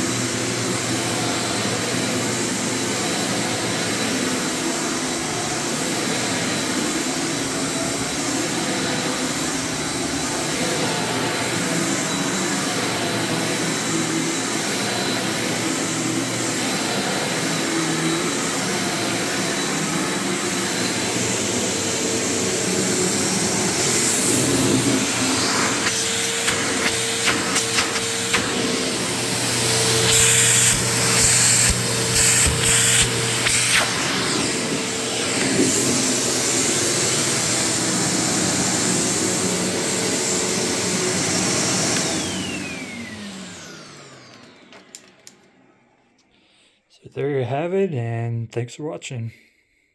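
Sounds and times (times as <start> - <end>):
upright vacuum running: 0.0 - 46.1.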